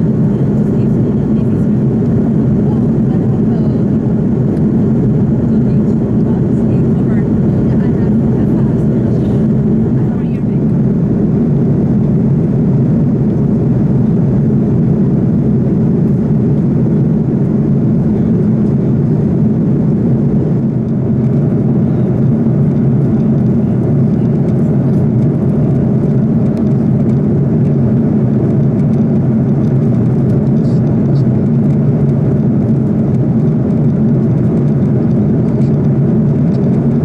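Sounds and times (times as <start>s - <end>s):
airplane cabin engine rumble: 0.0s - 37.0s.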